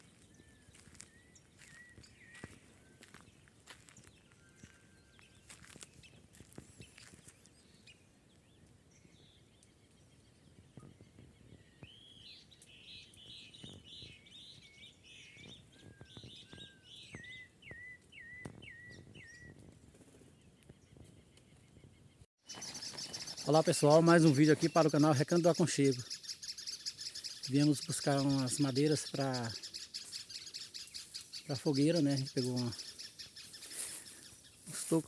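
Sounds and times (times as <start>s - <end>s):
faint bird singing: 0.0s - 35.0s.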